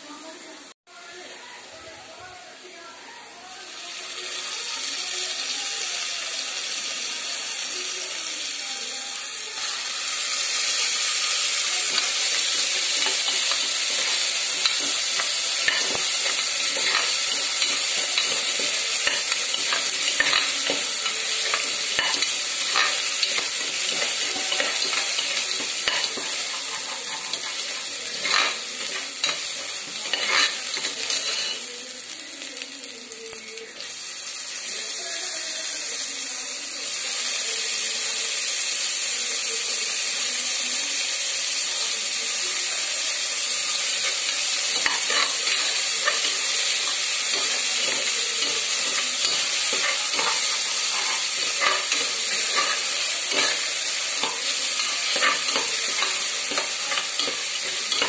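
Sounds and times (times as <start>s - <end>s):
chicken sizzling in a pot: 0.0s - 58.0s.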